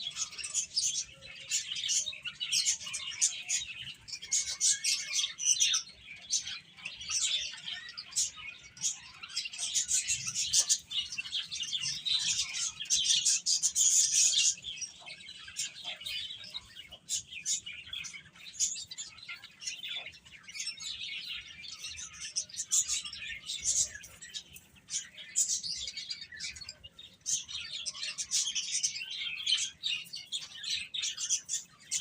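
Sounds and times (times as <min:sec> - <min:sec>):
baby chicks cheeping: 0:00.0 - 0:32.0.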